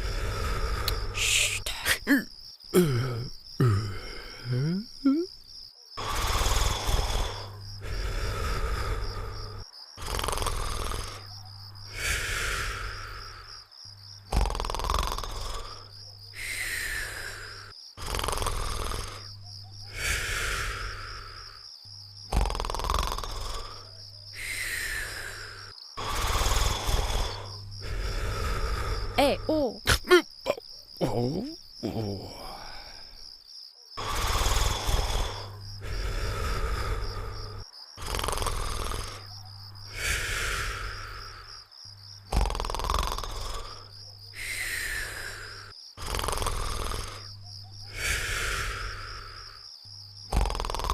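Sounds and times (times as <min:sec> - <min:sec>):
cartoon snoring with whistle: 0:00.0 - 0:05.3, 0:06.0 - 0:13.5, 0:14.3 - 0:21.6, 0:22.3 - 0:33.0, 0:34.0 - 0:41.5, 0:42.3 - 0:49.6, 0:50.2 - 0:50.9.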